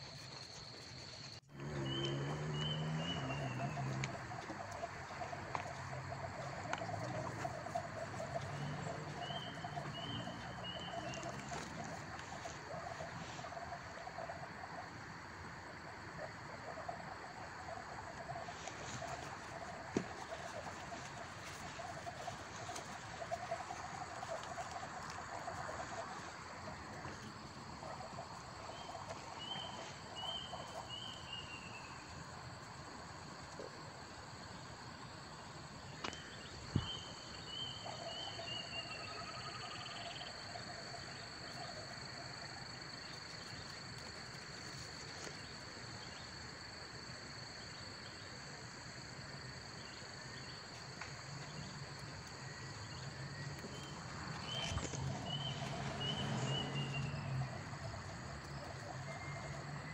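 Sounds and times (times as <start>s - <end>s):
insect chirping: 0.0s - 59.9s
insects droning: 0.0s - 59.9s.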